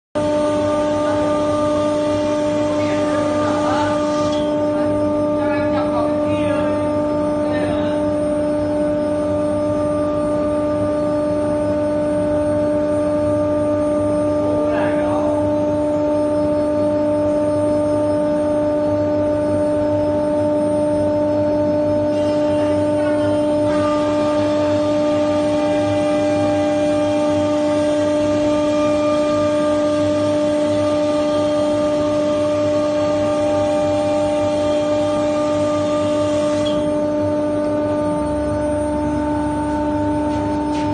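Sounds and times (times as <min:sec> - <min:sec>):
router spindle whining: 0:00.2 - 0:40.9.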